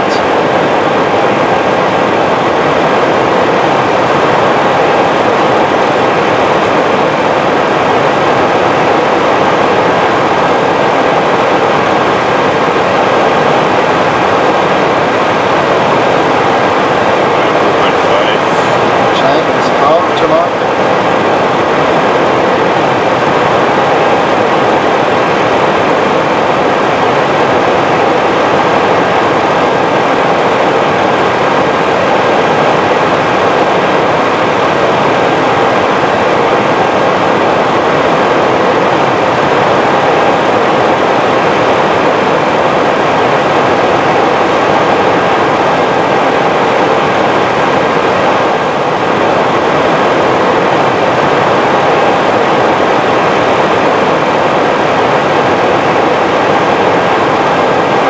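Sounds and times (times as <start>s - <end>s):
faint steady whine: 0.0s - 58.0s
rushing cabin noise: 0.0s - 58.0s.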